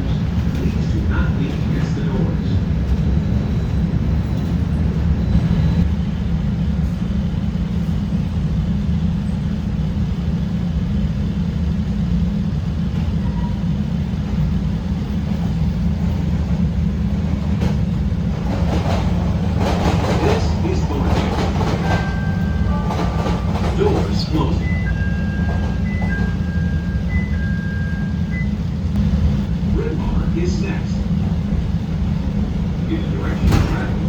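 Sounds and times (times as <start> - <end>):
subway train rumbling: 0.0 - 34.0.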